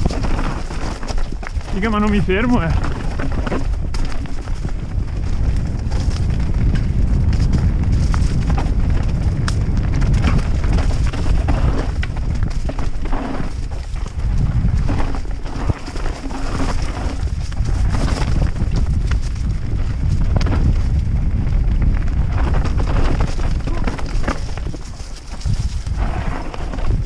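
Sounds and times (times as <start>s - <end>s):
bike rattling on rocks: 0.0s - 27.0s
bike tyres rolling over stones: 0.0s - 27.0s.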